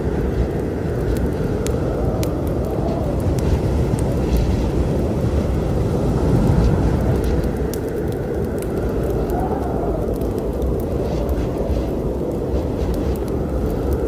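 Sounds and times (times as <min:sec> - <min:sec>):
low storm rumble: 0:00.0 - 0:14.0
wood fire popping and crackling: 0:00.0 - 0:14.0.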